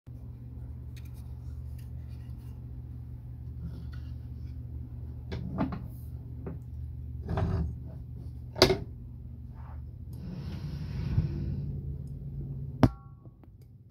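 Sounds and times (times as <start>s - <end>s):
steady low hum: 0.1s - 13.9s.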